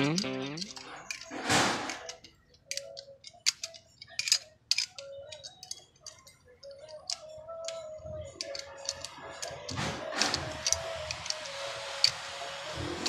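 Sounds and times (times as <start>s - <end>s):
socket wrench clicking on metal: 0.0s - 12.2s.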